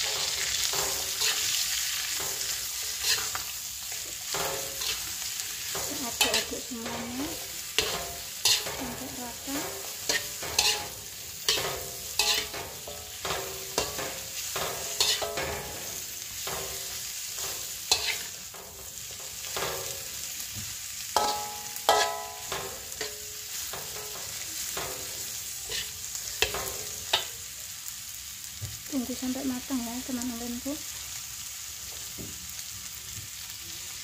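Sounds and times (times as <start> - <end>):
spatula scraping and clanking: 0.0 - 27.4
vegetables sizzling in a wok: 0.0 - 34.0.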